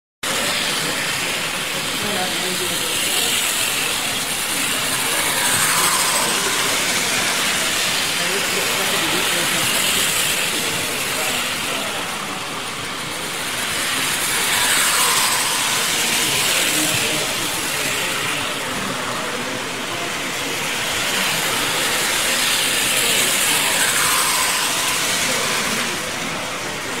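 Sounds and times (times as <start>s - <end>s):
hum of voices: 0.2s - 27.0s
model trains whirring on rails: 0.2s - 27.0s.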